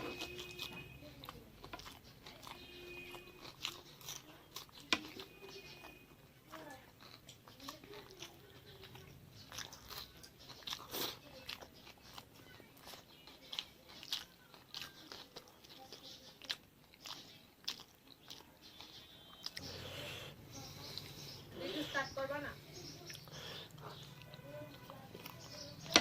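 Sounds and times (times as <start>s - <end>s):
person chewing crunchy food: 0.0s - 22.0s, 22.6s - 26.0s.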